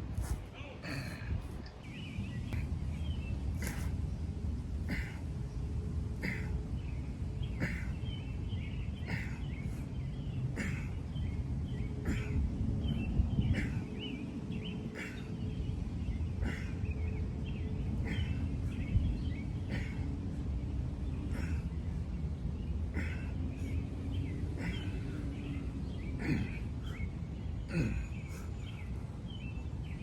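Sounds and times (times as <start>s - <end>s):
birds chirping: 0.0s - 30.0s
steady low rumble: 0.0s - 30.0s.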